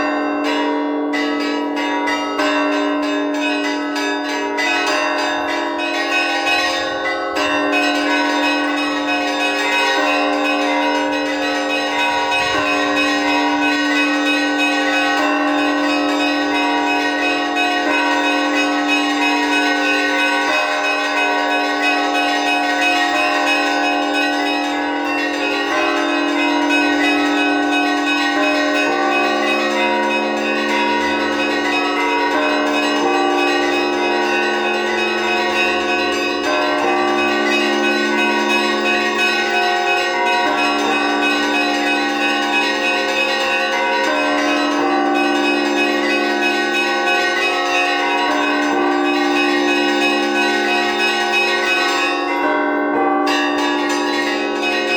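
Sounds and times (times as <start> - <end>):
church bells ringing: 0.0 - 54.9
deep bell tolling: 0.0 - 54.9.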